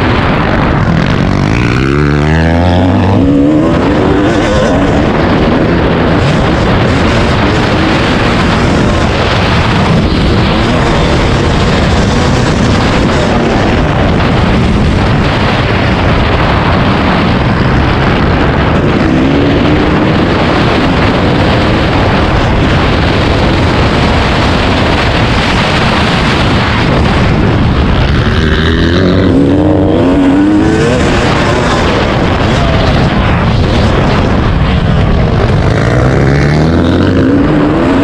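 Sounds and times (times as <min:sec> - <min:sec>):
dirt bike engine revving: 0:00.0 - 0:38.0
loud steady rushing noise: 0:00.0 - 0:38.0.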